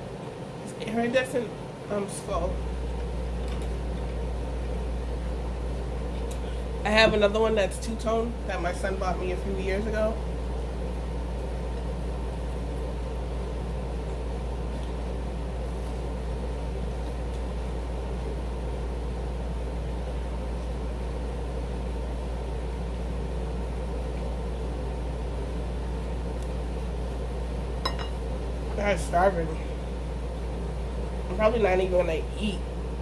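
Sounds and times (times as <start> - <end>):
air conditioner fan humming: 0.0 - 33.0.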